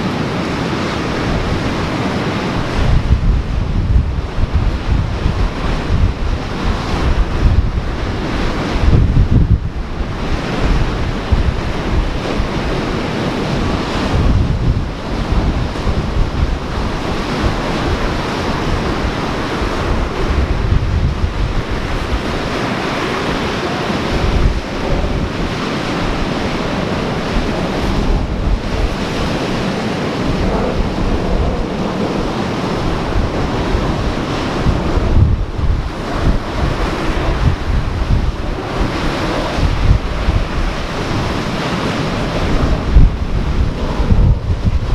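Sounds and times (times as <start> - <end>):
ocean surf washing: 0.0 - 44.9
wind buffeting microphone: 0.0 - 44.9.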